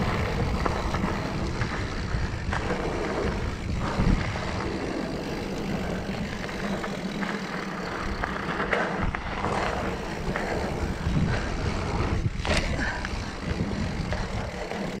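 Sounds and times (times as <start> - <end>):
bike rattling over bumps: 0.0 - 15.0
bike tyres rolling over dirt: 0.0 - 15.0
steady low rumble: 0.0 - 15.0.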